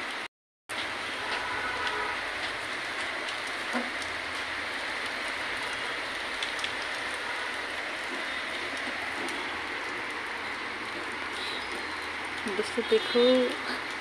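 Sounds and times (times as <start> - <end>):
raindrops ticking: 0.7 - 14.0
heavy rain hissing: 0.8 - 14.0.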